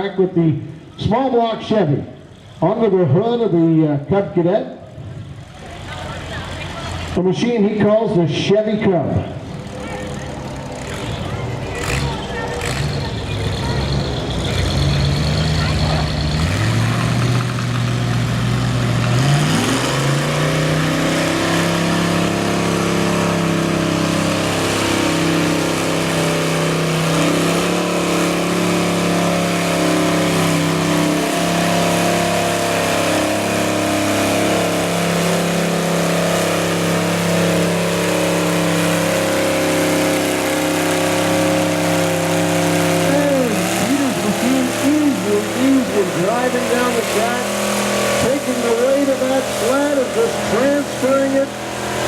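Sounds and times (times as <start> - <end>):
tractor engine revving under load: 9.3 - 52.0.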